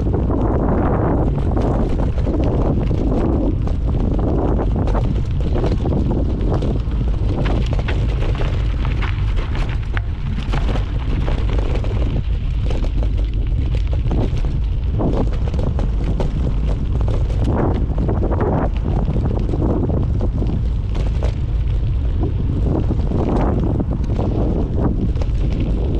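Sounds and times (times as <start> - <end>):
bike rattling and knocking: 0.0 - 25.9
wind buffeting microphone: 0.0 - 25.9.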